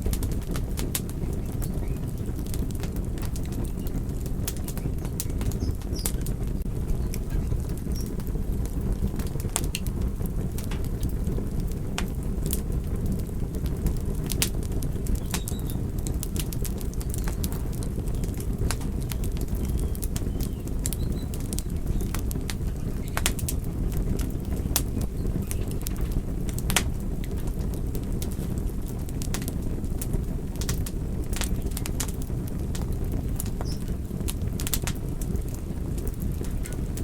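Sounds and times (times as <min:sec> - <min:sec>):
fire crackling and popping: 0:00.0 - 0:37.0.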